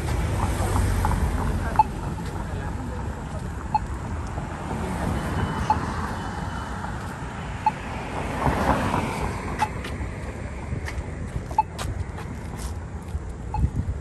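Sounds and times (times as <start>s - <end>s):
car passing: 0.0s - 12.6s
street traffic rumble: 0.0s - 14.0s.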